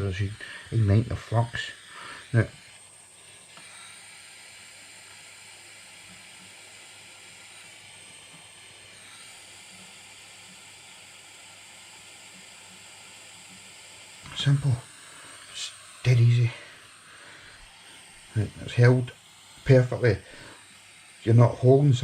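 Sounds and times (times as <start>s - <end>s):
gas torch flame hissing: 0.0s - 22.0s.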